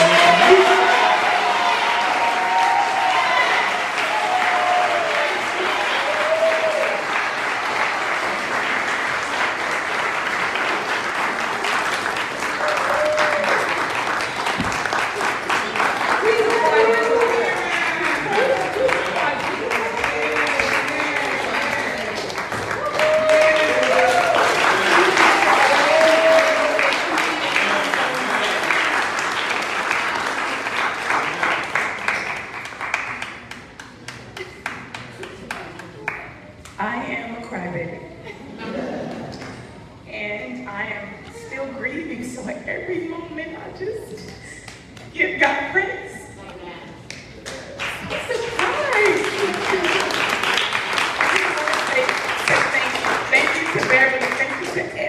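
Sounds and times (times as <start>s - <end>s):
congregation applauding: 0.0s - 36.6s, 47.2s - 55.0s.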